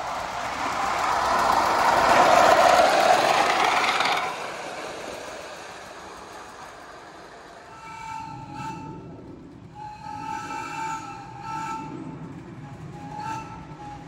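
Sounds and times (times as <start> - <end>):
steam locomotive passing: 0.0 - 14.0.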